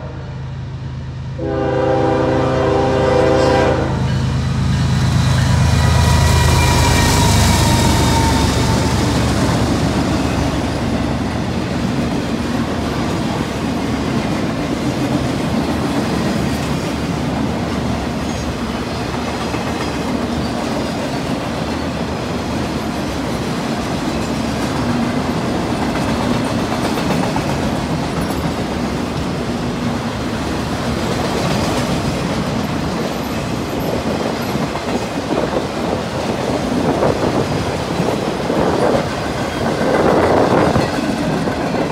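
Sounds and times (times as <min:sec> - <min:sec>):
train wheels clattering on rails: 0:04.1 - 0:41.9.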